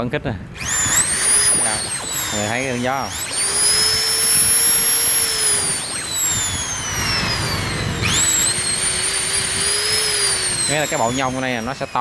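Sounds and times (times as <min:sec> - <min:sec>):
hammer drill whining: 0:00.6 - 0:12.0.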